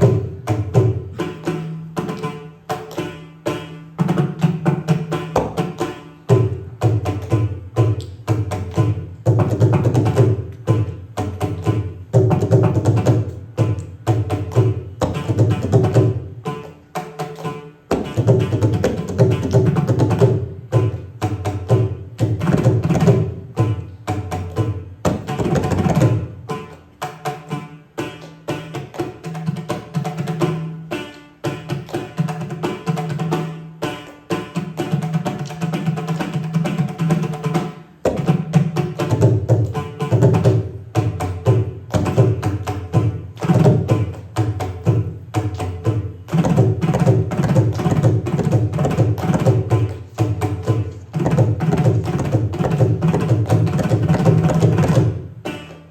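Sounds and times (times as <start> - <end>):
hand drums playing fast rhythm: 0.0 - 55.9.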